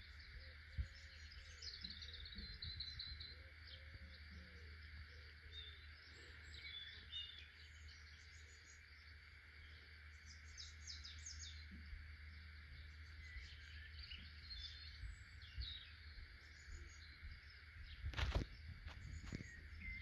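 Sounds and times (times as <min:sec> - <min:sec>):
faint birds chirping: 0:00.0 - 0:20.0
outdoor hiss and rumble: 0:00.0 - 0:20.0.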